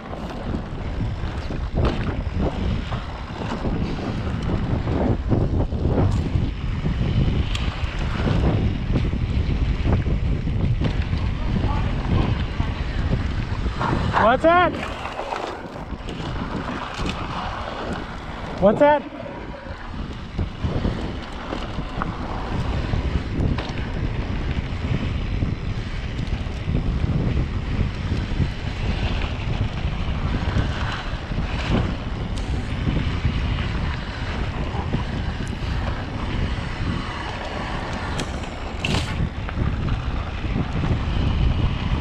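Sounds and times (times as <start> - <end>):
bike clicks and rattles: 0.0 - 42.0
bike tyres rolling on dirt: 0.0 - 42.0
wind buffeting microphone: 0.0 - 42.0.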